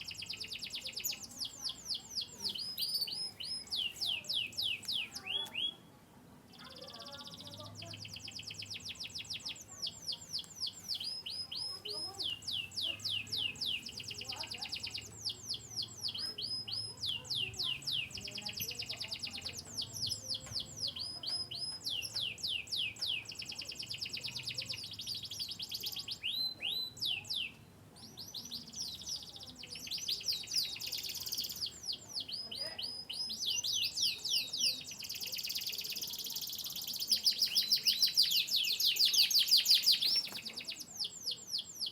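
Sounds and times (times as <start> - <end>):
canary singing trills: 0.0 - 5.9, 6.5 - 41.9.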